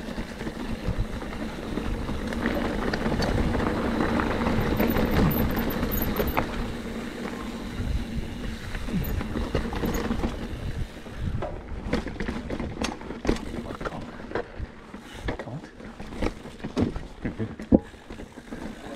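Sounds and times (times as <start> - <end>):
bike tyres rumbling on trail: 0.0 - 18.9.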